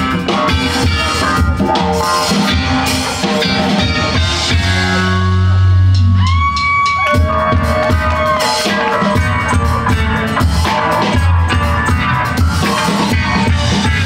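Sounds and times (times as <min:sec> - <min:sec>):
electric guitar bending notes: 0:00.0 - 0:14.0
live band playing: 0:00.0 - 0:14.0.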